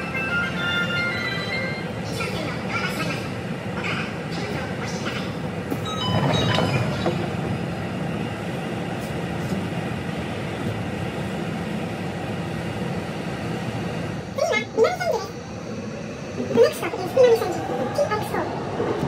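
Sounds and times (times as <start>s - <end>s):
train wheels rumbling on rail: 1.9s - 19.0s.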